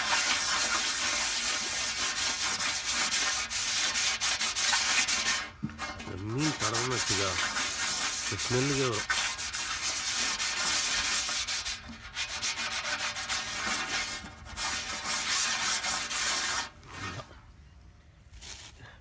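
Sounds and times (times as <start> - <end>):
fish scraping on metal platter: 0.0 - 17.3.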